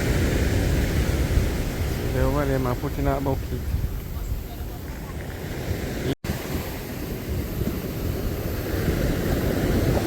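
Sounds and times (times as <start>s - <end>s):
sea surf: 0.0s - 10.0s
wind buffeting microphone: 0.0s - 10.0s.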